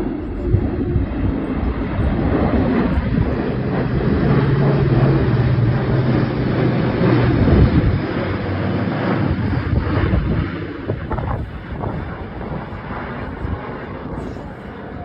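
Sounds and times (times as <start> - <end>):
aircraft flying past: 0.0 - 15.0
wind buffeting microphone: 0.0 - 15.0.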